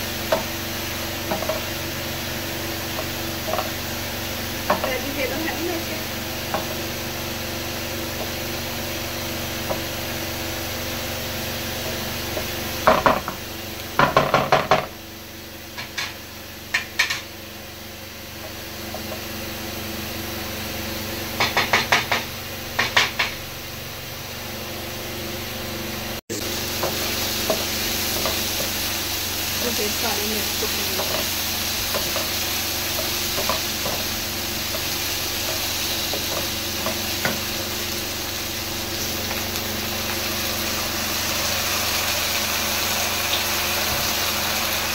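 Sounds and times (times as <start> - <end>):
food sizzling in a pan: 0.0 - 23.8, 26.3 - 44.9.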